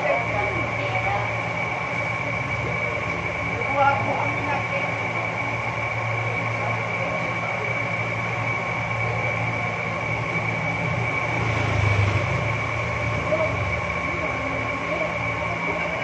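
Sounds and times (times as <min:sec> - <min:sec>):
high-pitched whine: 0:00.0 - 0:16.0
machine hum: 0:00.0 - 0:16.0.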